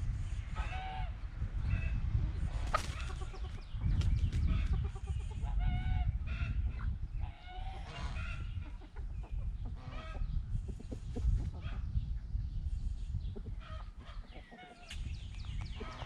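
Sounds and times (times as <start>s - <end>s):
steady low rumble: 0.0s - 14.3s
chickens clucking: 0.4s - 16.0s.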